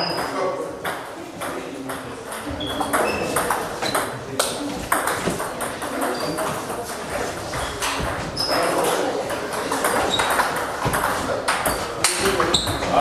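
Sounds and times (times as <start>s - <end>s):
table tennis balls clicking: 0.0s - 13.0s.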